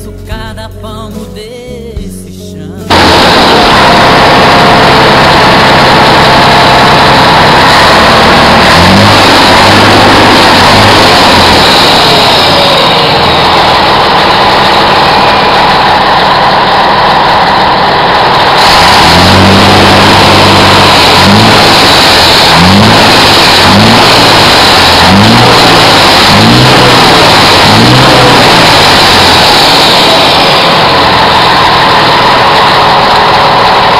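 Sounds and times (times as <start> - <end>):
truck diesel engine idling and revving: 2.8 - 33.9.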